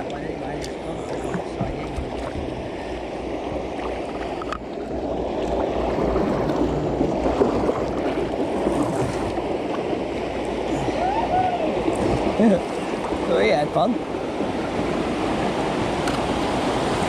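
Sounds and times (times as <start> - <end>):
water gurgling through sluice: 0.0 - 14.0.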